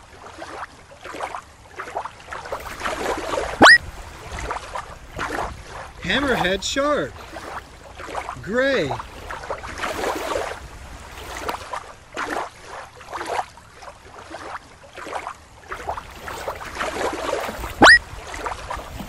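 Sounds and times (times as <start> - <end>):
water lapping and sloshing: 0.0 - 19.0.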